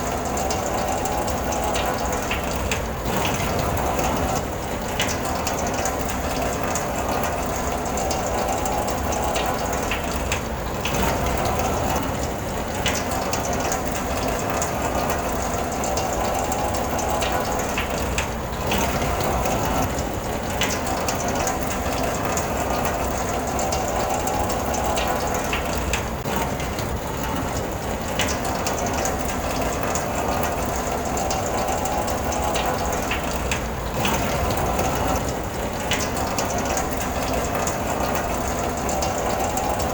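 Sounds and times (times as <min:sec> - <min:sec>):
rain on car roof: 0:00.0 - 0:39.9.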